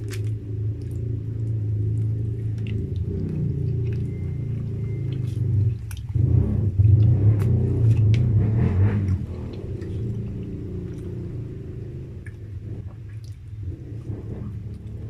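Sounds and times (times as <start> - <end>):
wet mouth clicks: 0.0 - 8.2, 9.1 - 15.0
chewing food: 0.0 - 15.0
steady low hum: 0.0 - 15.0.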